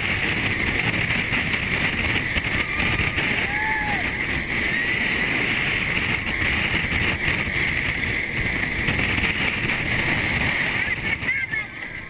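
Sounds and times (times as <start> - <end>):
wind rushing: 0.0 - 11.5
roller coaster running on track: 0.0 - 12.0.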